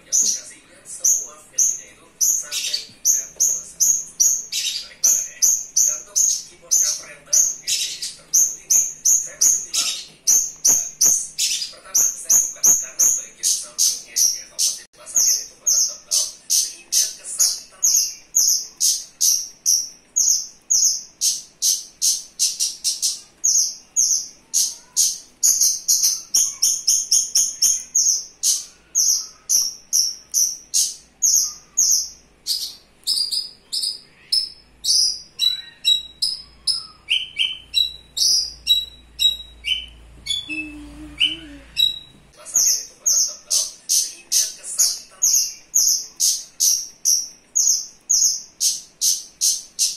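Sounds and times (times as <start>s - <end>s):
lark singing: 0.0s - 49.9s.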